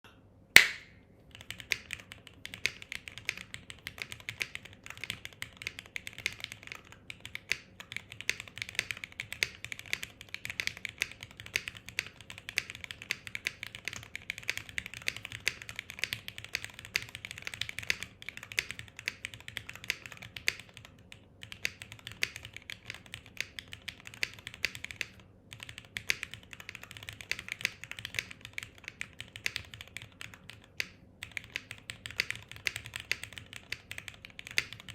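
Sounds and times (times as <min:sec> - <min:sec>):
mechanical keyboard typing: 0:01.3 - 0:34.9.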